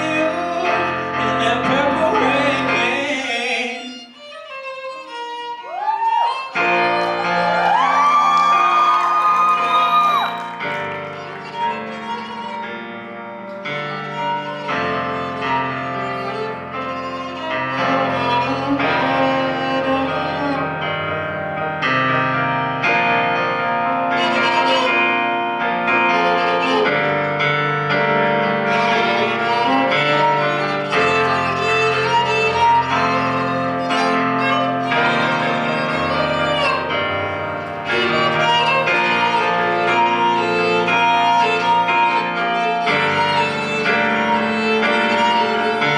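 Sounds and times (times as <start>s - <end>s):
instrumental music with held melody: 0.0s - 45.9s.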